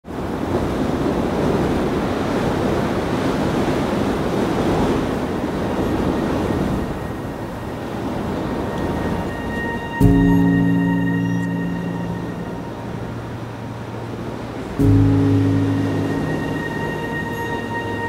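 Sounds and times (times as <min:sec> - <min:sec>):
steady rushing noise: 0:00.1 - 0:18.0.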